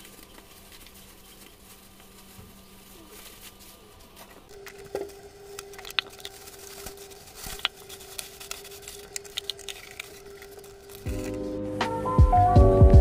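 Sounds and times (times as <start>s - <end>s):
faint steady hum: 0.0s - 11.4s
plastic bag rustling and crinkling: 0.0s - 11.5s.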